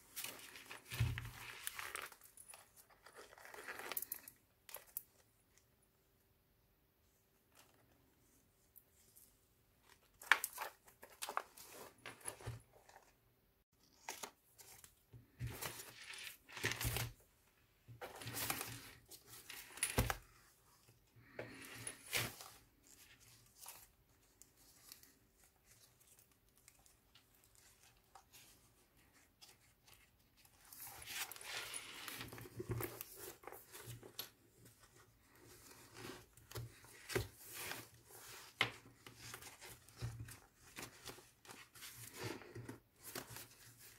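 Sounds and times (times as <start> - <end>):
paper pages rustling: 0.1 - 4.3, 9.9 - 13.1, 13.8 - 17.2, 18.0 - 20.2, 21.2 - 43.9.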